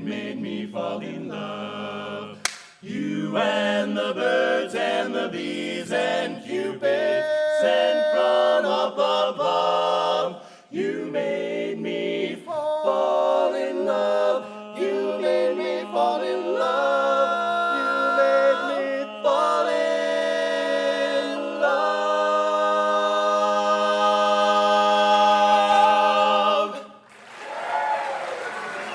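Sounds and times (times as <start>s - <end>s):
barbershop quartet singing: 0.0s - 27.0s.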